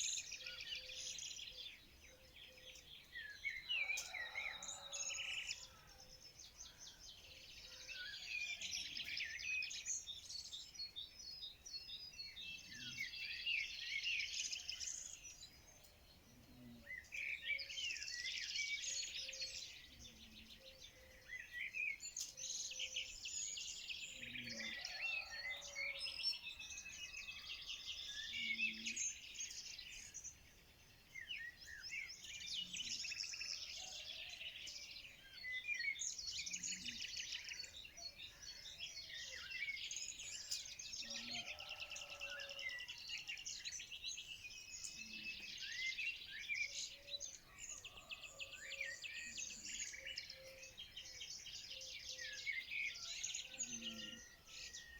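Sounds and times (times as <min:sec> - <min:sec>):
small songbirds chirping: 0:00.0 - 0:54.9.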